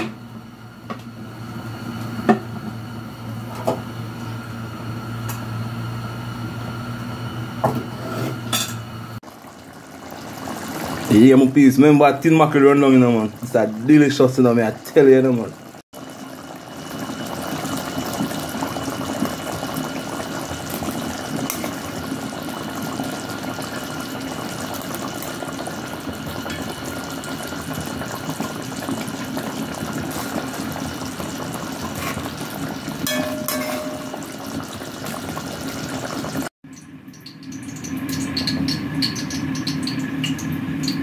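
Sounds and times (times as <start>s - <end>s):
pot simmering with bubbling hiss: 0.2s - 41.0s.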